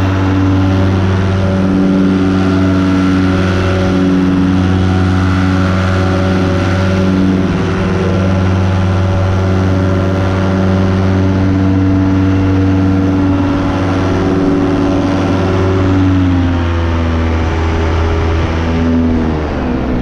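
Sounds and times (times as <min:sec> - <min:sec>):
paramotor engine and propeller: 0:00.0 - 0:20.0.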